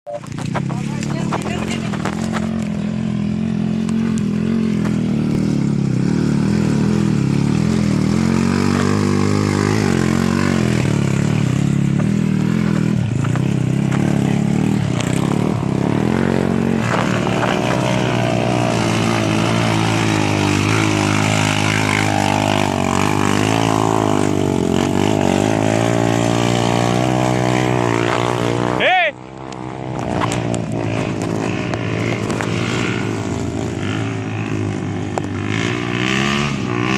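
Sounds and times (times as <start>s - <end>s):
vehicle engine driving off-road: 0.0s - 36.9s.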